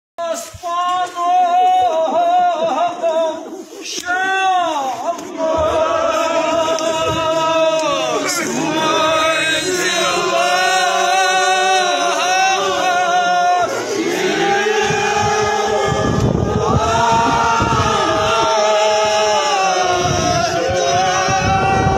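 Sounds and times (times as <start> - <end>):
men chanting slow melody: 0.8 - 21.9.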